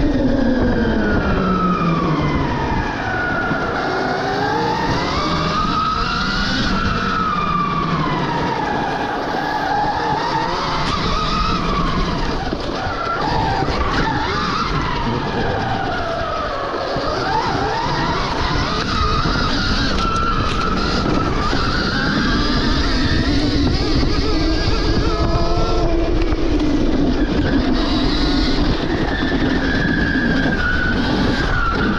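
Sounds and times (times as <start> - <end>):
electric motorbike motor whining: 0.0 - 31.9.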